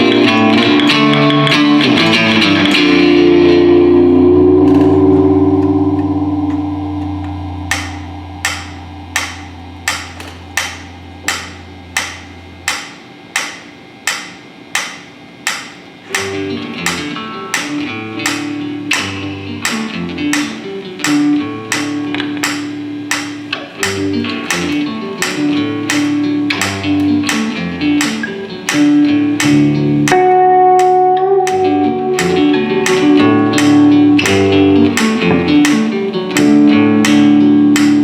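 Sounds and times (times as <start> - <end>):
plucked string notes: 0.0 - 13.5, 16.1 - 38.0.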